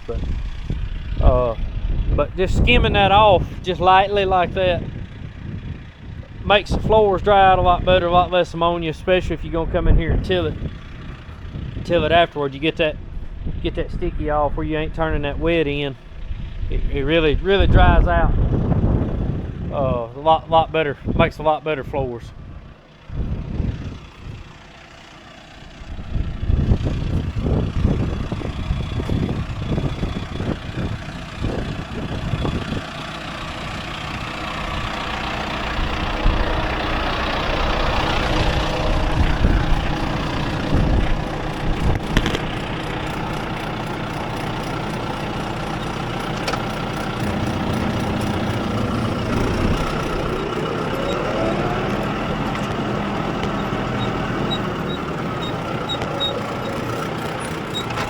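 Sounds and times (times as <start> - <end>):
low rumbling and thumps: 0.0 - 12.2, 12.8 - 21.3, 25.9 - 58.0
tractor engine running: 0.0 - 58.0.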